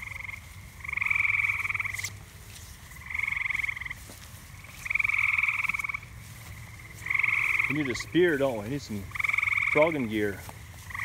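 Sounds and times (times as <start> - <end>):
frogs trilling: 0.0 - 11.0.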